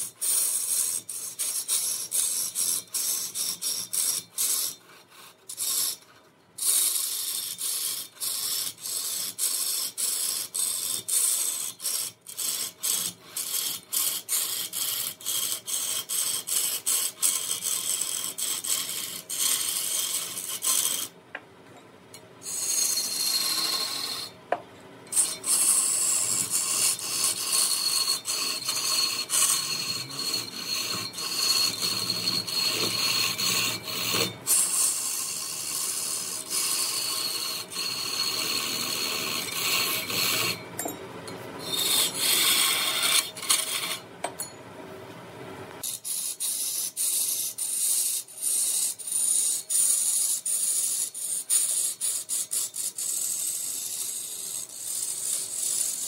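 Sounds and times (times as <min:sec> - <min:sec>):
hand rasp scraping wood: 0:00.0 - 0:21.2, 0:22.4 - 0:24.4, 0:25.1 - 0:40.6, 0:41.6 - 0:44.0, 0:45.8 - 0:56.0.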